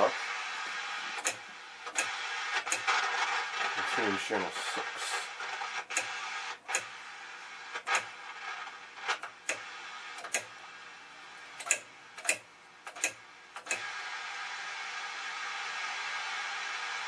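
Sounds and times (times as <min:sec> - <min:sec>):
television static hiss: 0:00.0 - 0:17.0.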